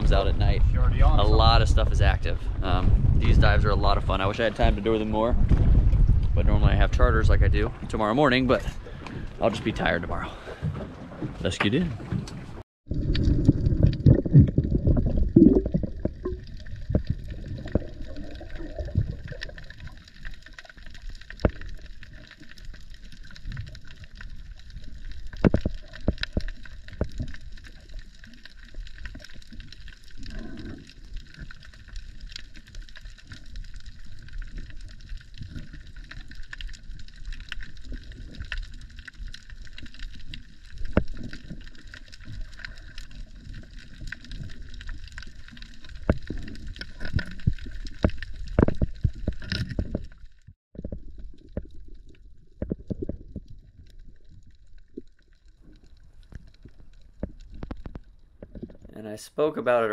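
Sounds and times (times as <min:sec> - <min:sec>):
muffled underwater bubbling: 0:00.0 - 0:50.2.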